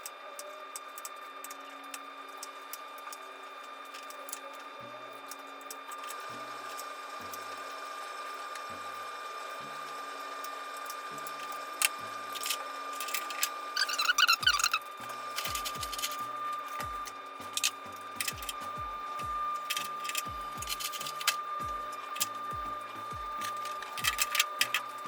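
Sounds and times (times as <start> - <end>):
steady high hum: 0.0 - 25.0.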